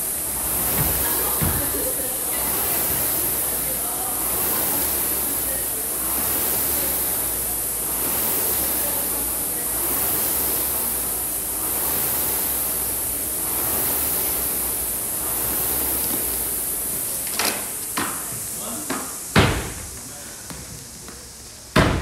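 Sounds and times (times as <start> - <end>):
rowing machine fan whooshing: 0.0 - 22.0.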